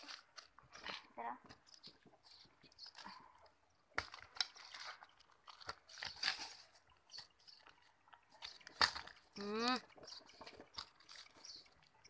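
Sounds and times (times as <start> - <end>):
hands digging through dry soil: 0.0 - 12.0.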